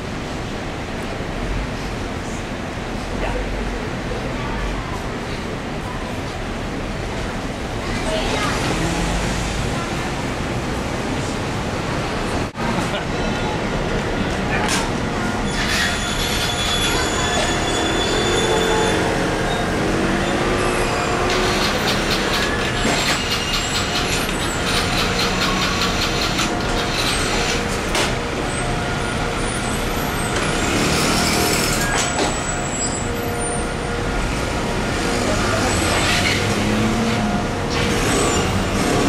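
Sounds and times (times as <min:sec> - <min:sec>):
vehicles passing on city street: 0:00.0 - 0:39.0.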